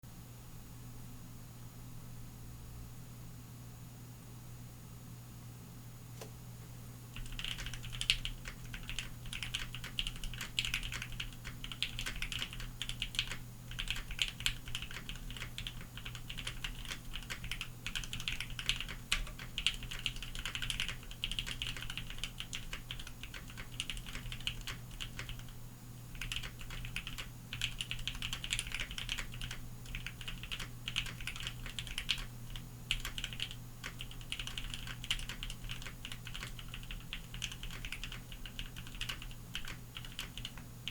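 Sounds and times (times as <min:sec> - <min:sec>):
low background hum: 0:00.0 - 0:40.9
fast typing on mechanical keyboard: 0:07.2 - 0:40.9.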